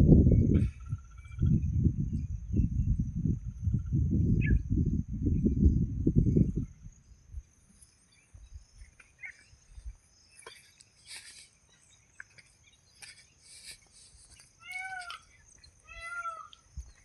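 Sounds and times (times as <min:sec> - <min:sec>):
high-pitched insect-like hum: 0:00.0 - 0:17.0.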